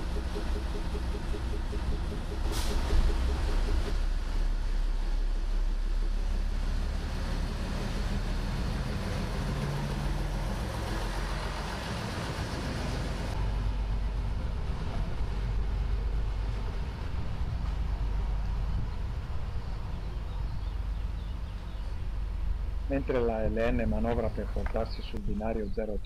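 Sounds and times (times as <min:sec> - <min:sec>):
diesel railcar engines running: 0:00.0 - 0:25.8.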